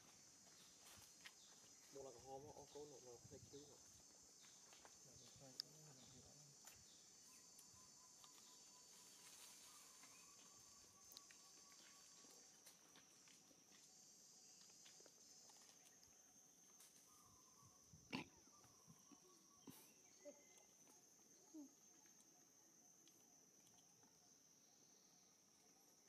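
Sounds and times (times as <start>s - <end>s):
faint high-pitched insect buzz: 0.0s - 26.0s.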